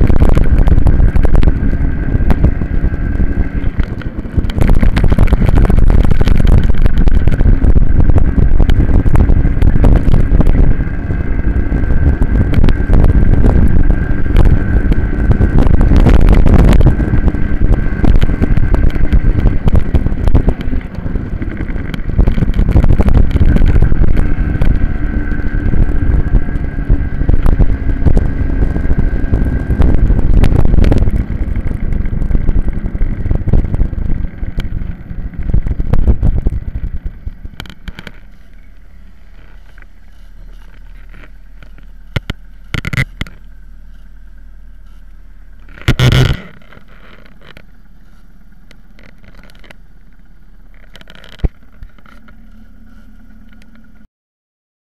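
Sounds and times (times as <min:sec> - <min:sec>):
low steady hum: 0:00.0 - 0:54.1
minibike engine running: 0:00.0 - 0:54.1
road noise: 0:00.0 - 0:54.1
wind noise: 0:00.0 - 0:54.1.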